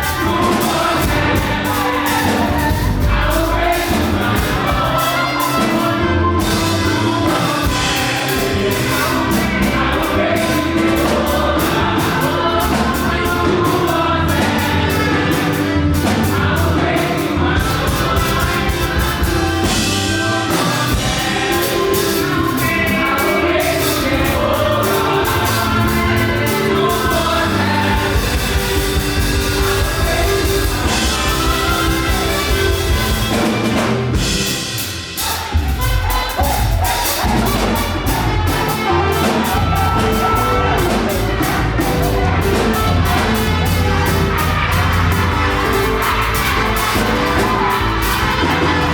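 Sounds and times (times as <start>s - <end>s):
drums: 0.0s - 48.9s
fast gospel music: 0.0s - 48.9s
singers: 0.0s - 48.9s.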